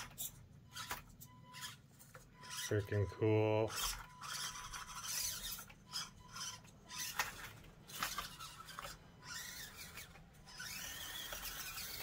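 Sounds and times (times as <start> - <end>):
toy crawler scraping over terrain: 0.0 - 12.0.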